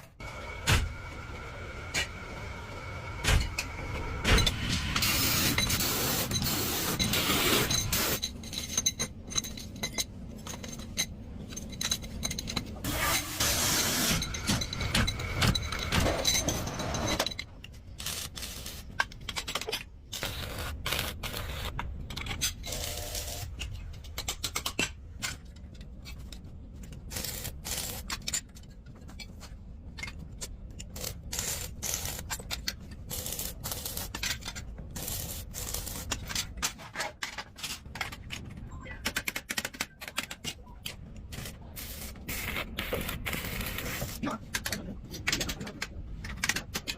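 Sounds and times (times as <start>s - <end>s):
metal parts scraping and clinking: 3.4s - 46.9s.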